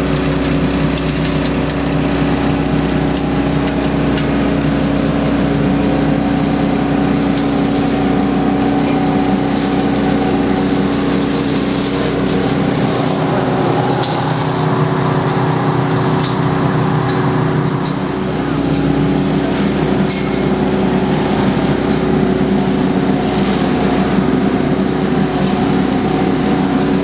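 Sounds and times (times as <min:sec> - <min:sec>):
vacuum leaf sweeper running: 0:00.0 - 0:27.0.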